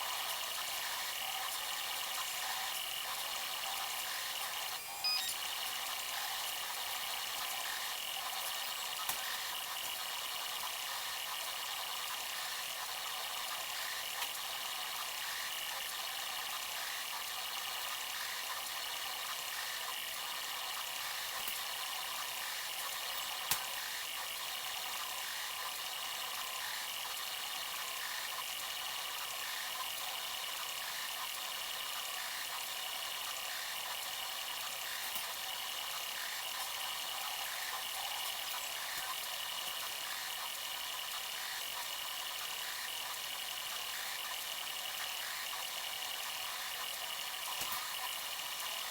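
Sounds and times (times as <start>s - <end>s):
printer fans and motors whirring: 0.0s - 48.9s.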